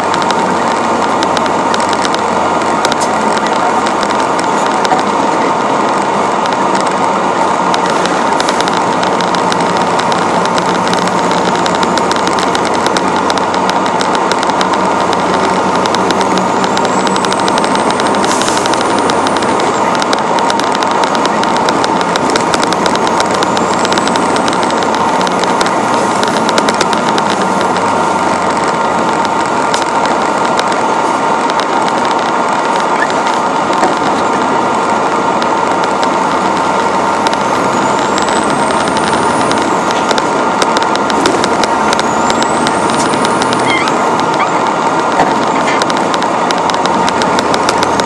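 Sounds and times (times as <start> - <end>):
truck diesel engine driving: 0.0 - 48.0.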